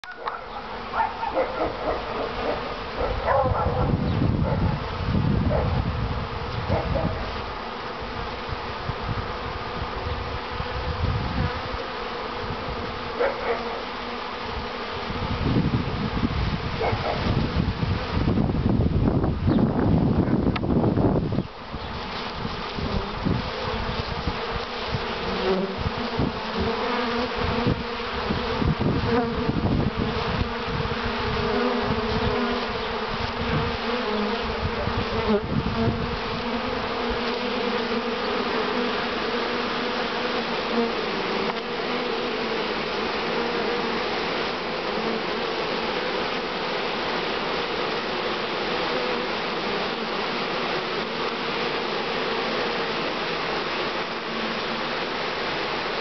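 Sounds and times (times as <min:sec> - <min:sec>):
bee swarm buzzing: 0:00.0 - 0:56.0.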